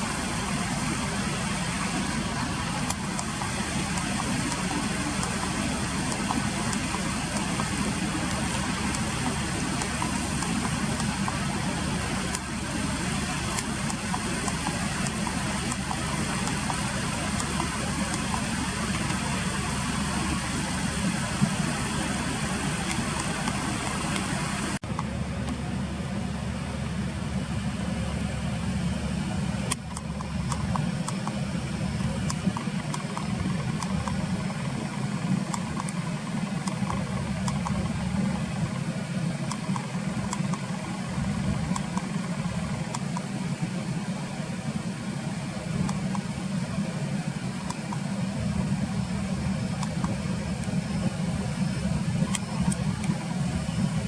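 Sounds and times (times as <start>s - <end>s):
low rumble of motor vehicles: 0.0s - 54.0s.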